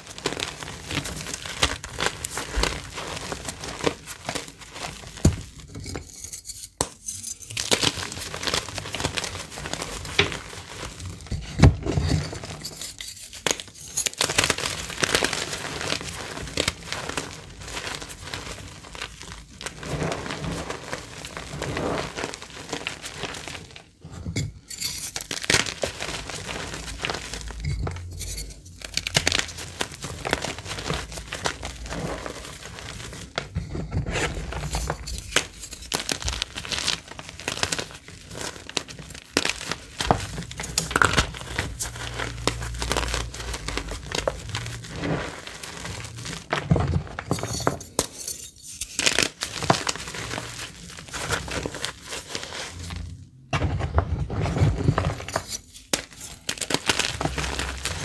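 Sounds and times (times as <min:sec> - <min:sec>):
chalk crunching and crackling: 0:00.0 - 0:11.4, 0:12.0 - 0:53.3, 0:54.0 - 0:58.0.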